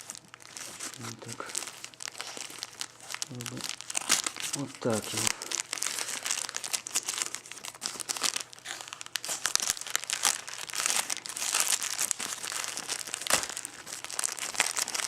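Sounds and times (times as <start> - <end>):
plastic packaging crinkling: 0.0 - 15.0
plastic tearing: 0.0 - 15.0.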